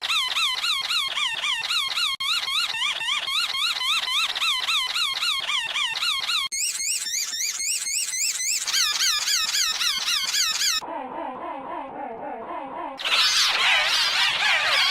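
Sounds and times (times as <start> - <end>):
squeaky wheezing sound effect: 0.0 - 10.8, 13.0 - 14.9.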